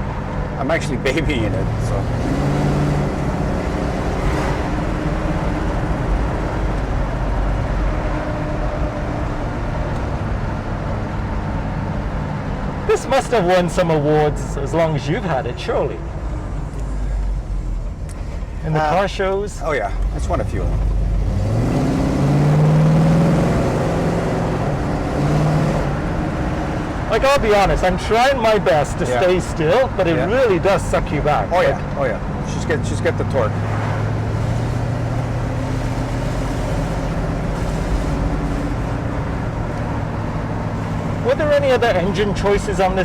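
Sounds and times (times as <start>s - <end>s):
car engine running: 0.0s - 43.0s
tyre and road noise: 0.0s - 43.0s.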